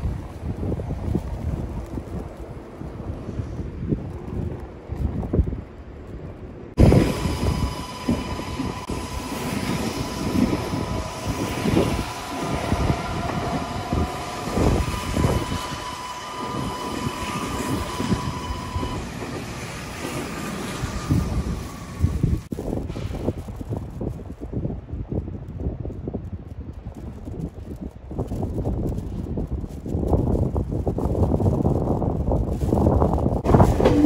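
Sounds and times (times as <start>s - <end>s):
train wheels rumbling on rail: 0.0s - 25.5s, 26.8s - 34.0s.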